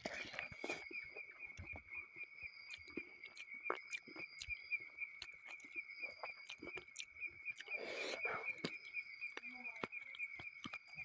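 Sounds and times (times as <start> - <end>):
chewing and wet mouth clicks: 0.0 - 1.9, 2.6 - 11.0
crickets chirping: 0.0 - 11.0.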